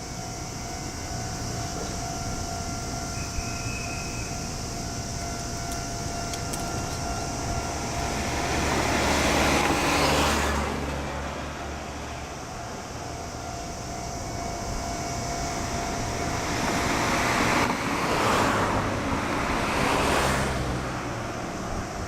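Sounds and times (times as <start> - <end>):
vehicles passing close by: 0.0 - 22.0.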